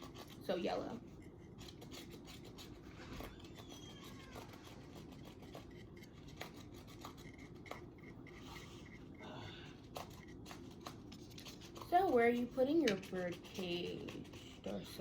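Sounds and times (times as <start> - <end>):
paintbrush scratching on wood: 0.0 - 9.2, 9.9 - 15.0.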